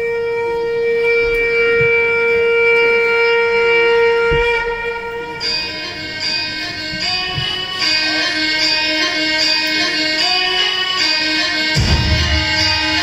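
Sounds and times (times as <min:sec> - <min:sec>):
conch shell blown: 0:00.0 - 0:13.0.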